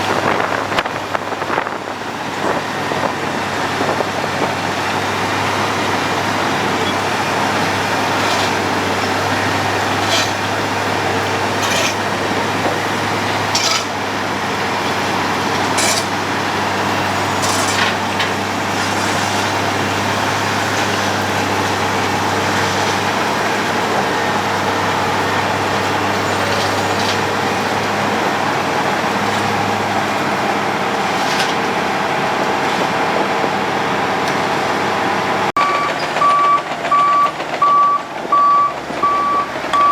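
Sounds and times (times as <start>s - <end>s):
diesel engine humming: 0.0s - 39.9s
road surface grinding: 0.0s - 39.9s.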